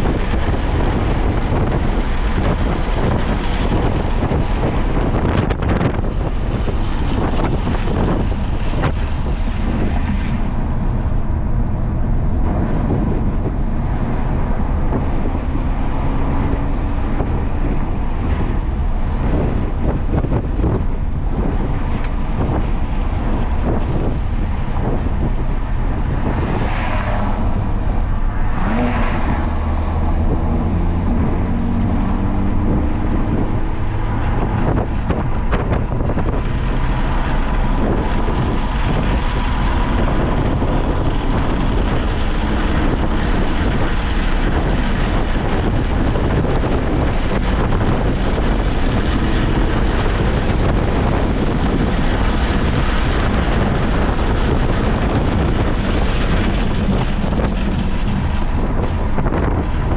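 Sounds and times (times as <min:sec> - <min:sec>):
car engine drone: 0:00.0 - 0:59.9
wind noise on microphone: 0:00.0 - 0:59.9.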